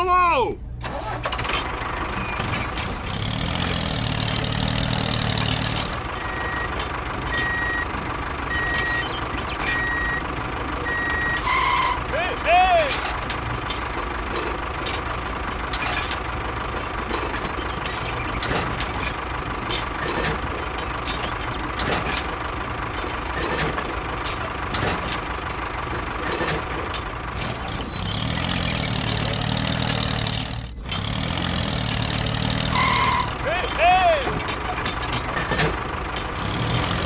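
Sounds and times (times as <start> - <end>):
clicks and knocks: 1.3 - 28.0, 28.7 - 31.1, 31.8 - 37.0.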